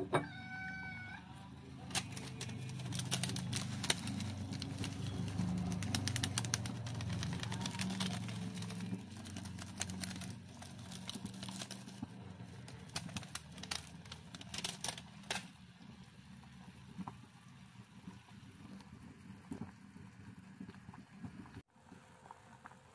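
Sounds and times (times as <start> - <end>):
broth simmering with popping: 1.6 - 22.9.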